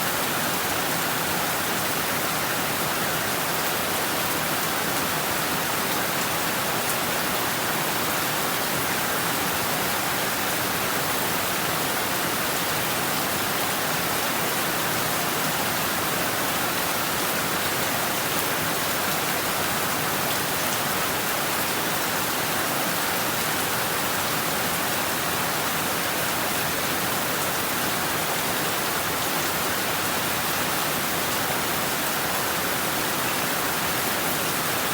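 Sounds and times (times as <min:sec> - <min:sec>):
heavy rain on rooftops and trees: 0:00.0 - 0:34.9.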